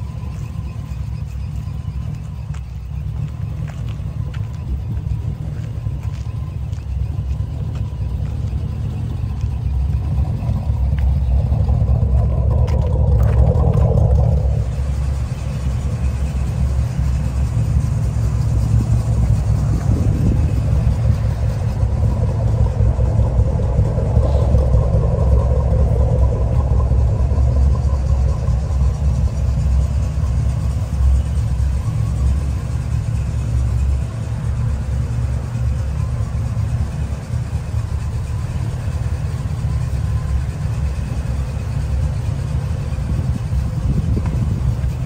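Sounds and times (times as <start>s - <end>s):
car engine exhaust rumble: 0.0s - 45.0s.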